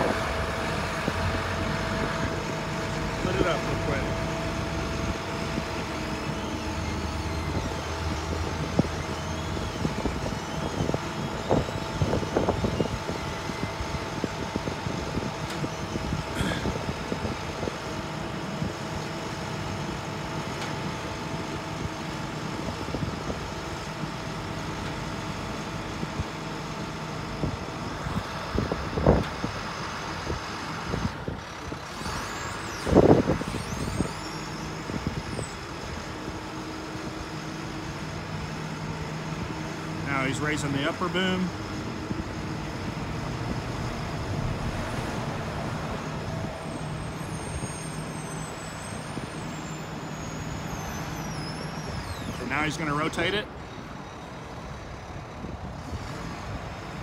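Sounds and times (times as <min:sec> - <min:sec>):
truck mechanical hum: 0:00.0 - 0:57.0.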